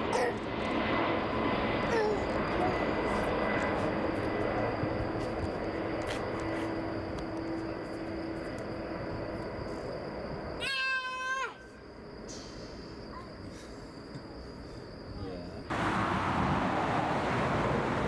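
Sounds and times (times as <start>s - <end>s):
jet airliner engines rushing: 0.0s - 13.8s, 15.4s - 18.0s.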